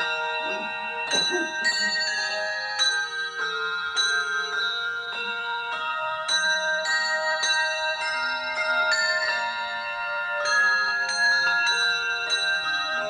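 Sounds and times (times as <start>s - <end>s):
tuned bells playing melody: 0.0s - 13.0s.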